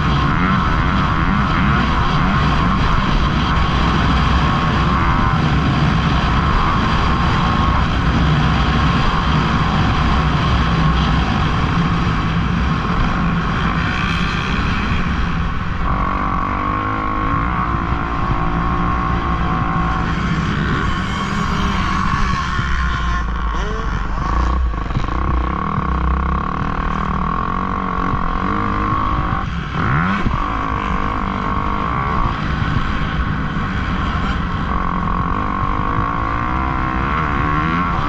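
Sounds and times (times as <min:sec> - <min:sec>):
dirt bike engines racing: 0:00.0 - 0:38.0.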